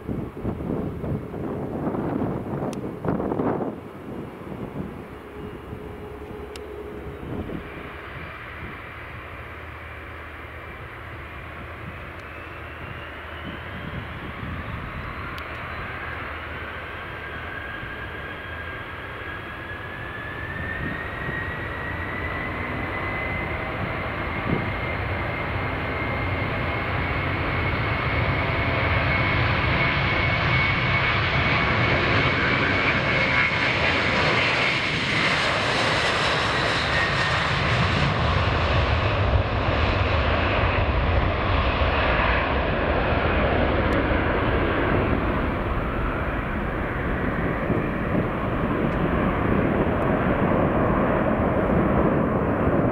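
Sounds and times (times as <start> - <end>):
jet engines passing: 0.0 - 52.9.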